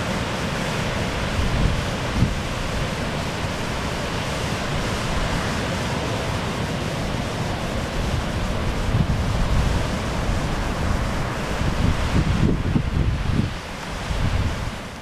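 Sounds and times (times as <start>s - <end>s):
ocean surf breaking: 0.0s - 15.0s
wind buffeting microphone: 1.0s - 5.7s, 6.3s - 15.0s.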